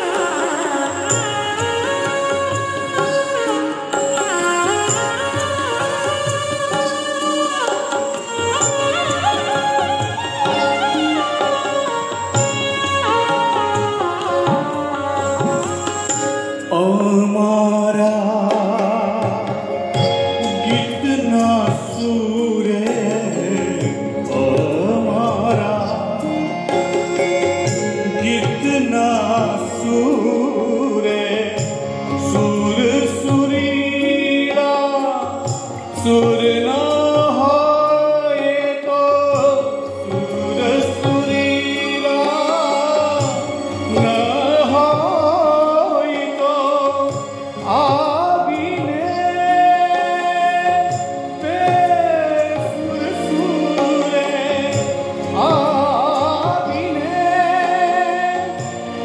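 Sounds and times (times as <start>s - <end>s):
harmonium: 0.0s - 59.0s
keyboard: 0.0s - 59.0s
man singing: 0.0s - 59.0s.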